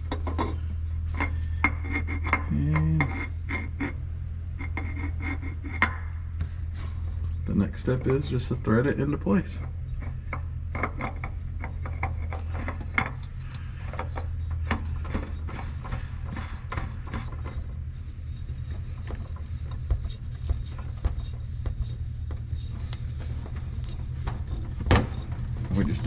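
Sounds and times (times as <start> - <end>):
oil filter rubbing and clicking: 0.0 - 26.0
steady low hum: 0.0 - 26.0.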